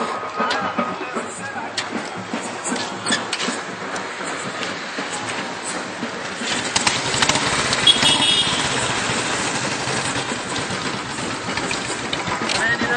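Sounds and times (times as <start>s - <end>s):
single-cylinder engine running: 0.0s - 12.9s.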